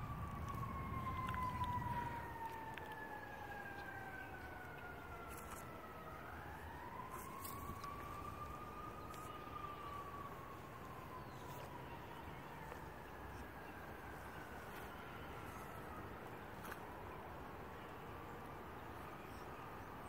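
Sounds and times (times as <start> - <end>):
low rumbling noise: 0.0 - 16.2
distant siren wailing: 0.0 - 20.0.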